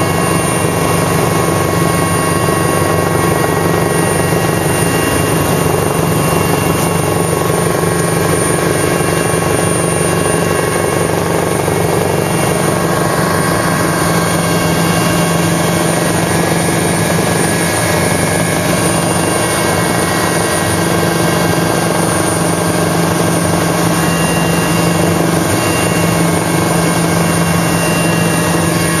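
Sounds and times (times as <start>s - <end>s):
constant high whine: 0.0s - 29.0s
helicopter engine and rotor drone: 0.0s - 29.0s.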